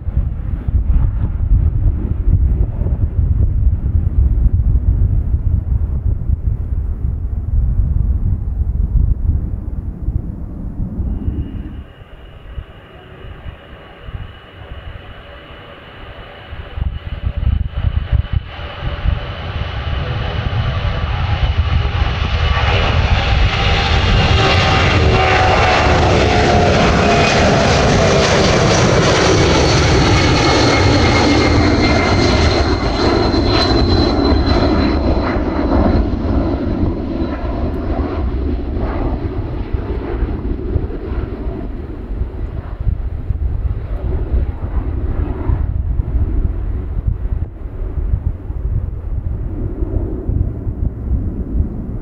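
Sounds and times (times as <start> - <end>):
jet engines at takeoff: 0.0 - 52.0.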